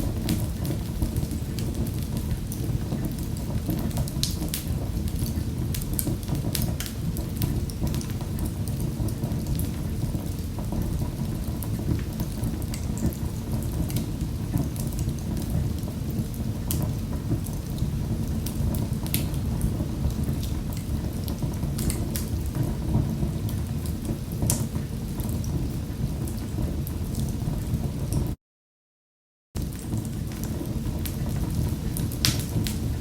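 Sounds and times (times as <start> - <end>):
fire crackling and popping: 0.0 - 28.4, 29.6 - 33.0
fire rumbling: 0.0 - 28.4, 29.6 - 33.0.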